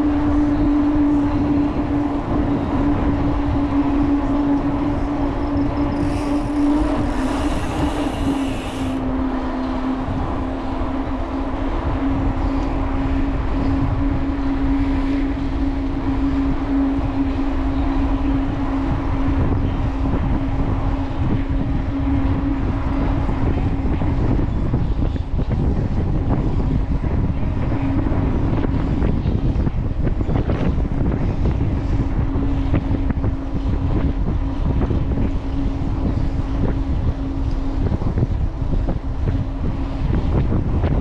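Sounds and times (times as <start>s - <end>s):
steady hum: 0.0s - 41.0s
wind rushing over microphone: 0.0s - 41.0s.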